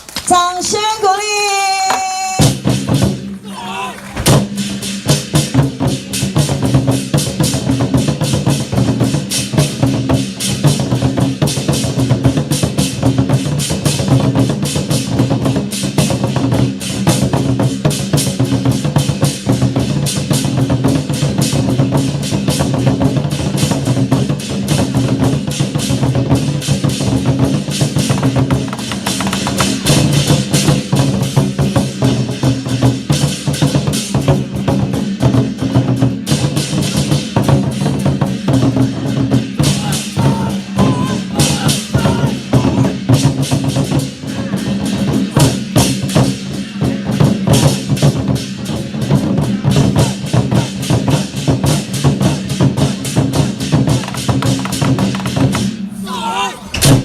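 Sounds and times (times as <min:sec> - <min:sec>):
war drums beating fast: 0:00.4 - 0:57.0.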